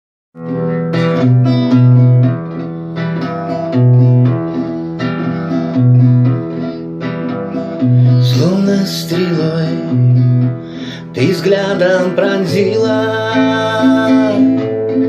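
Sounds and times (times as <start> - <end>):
guitar chords strummed: 0.4 - 15.0.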